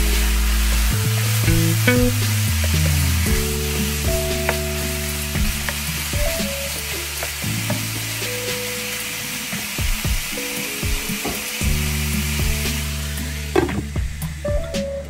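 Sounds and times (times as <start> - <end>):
meat sizzling in a pan: 0.0 - 13.6
background music with low notes: 0.0 - 15.0.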